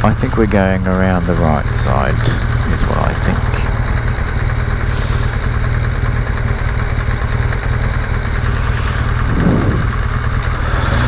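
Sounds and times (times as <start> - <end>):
motorcycle engine low rumble: 0.0 - 11.0
road and wind noise: 0.0 - 11.0.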